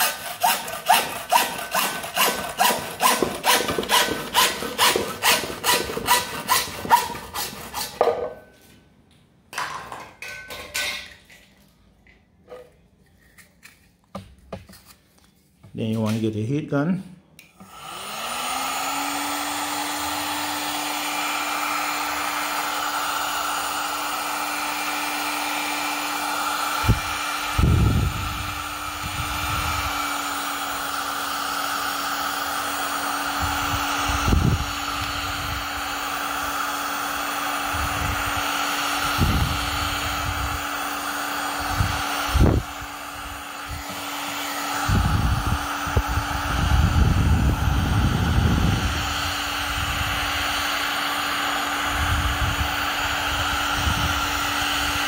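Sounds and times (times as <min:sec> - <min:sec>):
heat gun fan humming: 0:00.0 - 0:08.7, 0:15.7 - 0:55.0.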